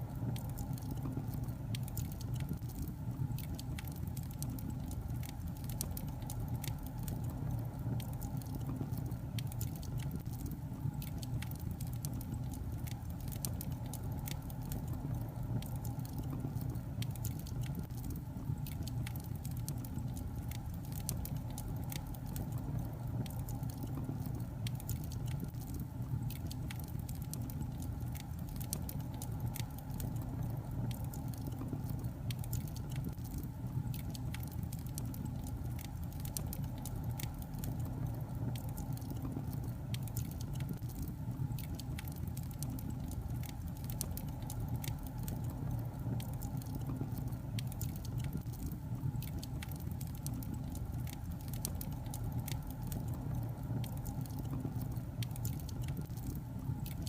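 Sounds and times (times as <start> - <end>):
burning logs crackling: 0.0 - 57.0.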